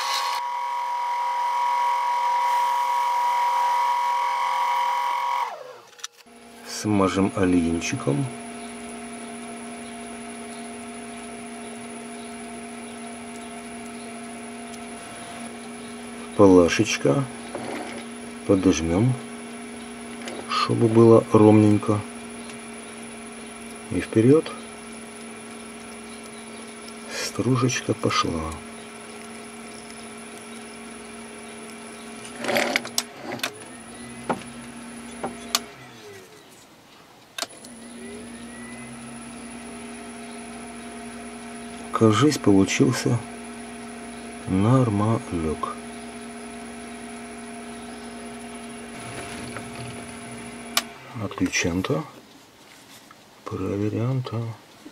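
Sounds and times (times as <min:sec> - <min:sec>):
lathe motor and gearbox hum: 0:00.0 - 0:54.9.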